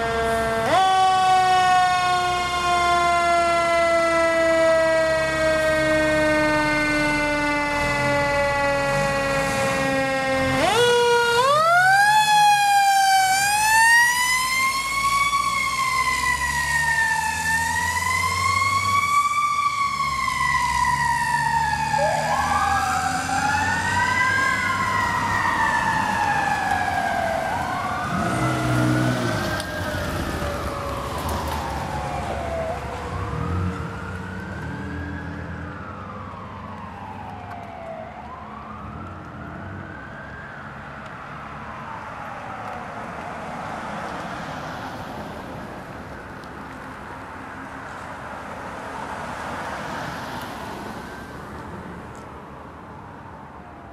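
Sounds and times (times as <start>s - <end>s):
second siren sweeping: 0.0s - 44.0s, 49.0s - 51.6s
fire truck siren wailing: 0.0s - 53.9s.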